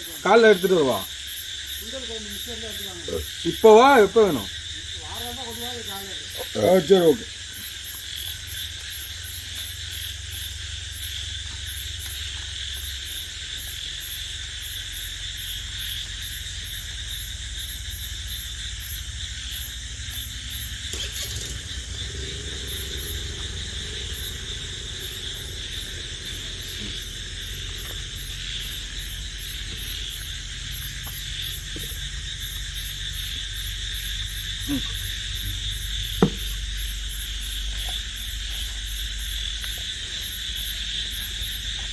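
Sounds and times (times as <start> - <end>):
crickets chirping: 0.0 - 41.9
insect drone: 0.0 - 41.9.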